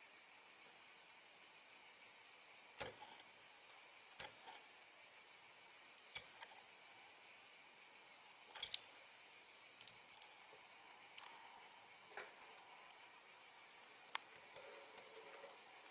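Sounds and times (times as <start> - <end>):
crickets chirping: 0.0 - 15.9.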